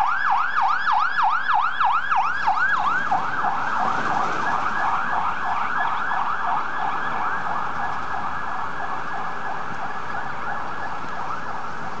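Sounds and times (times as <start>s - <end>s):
fire truck siren yelping: 0.0s - 12.0s.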